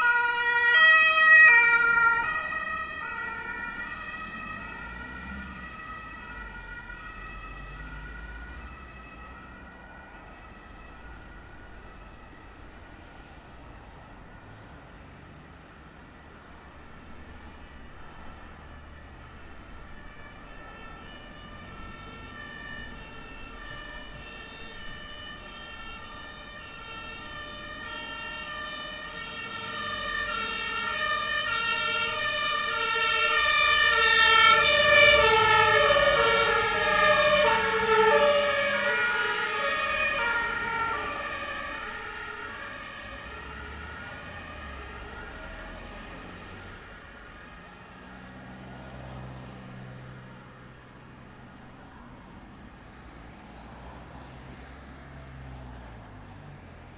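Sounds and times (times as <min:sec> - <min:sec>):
two-tone siren wail: 0:00.0 - 0:15.0, 0:16.2 - 0:52.3
low traffic rumble: 0:00.0 - 0:56.9.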